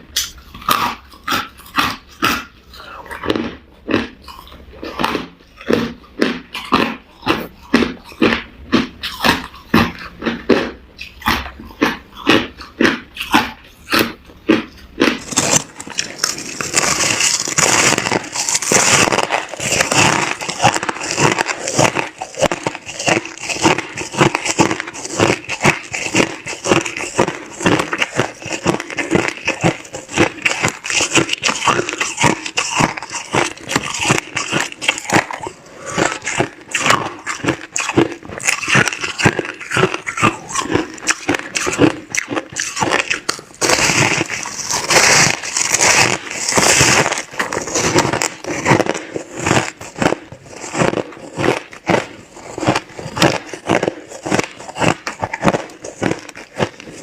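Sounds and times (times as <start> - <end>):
crunching ice between teeth: 0.1 - 57.0.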